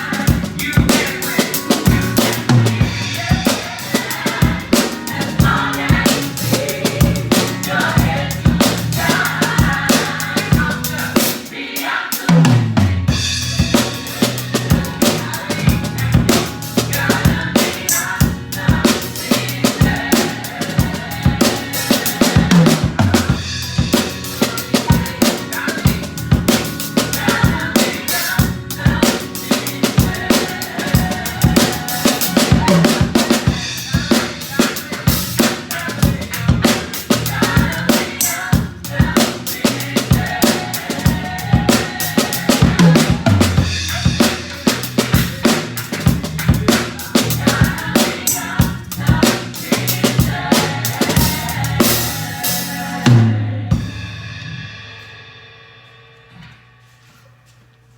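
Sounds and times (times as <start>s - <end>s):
music with strong bass line: 0.0s - 11.4s, 12.4s - 54.4s
drum kit groove: 0.0s - 56.8s.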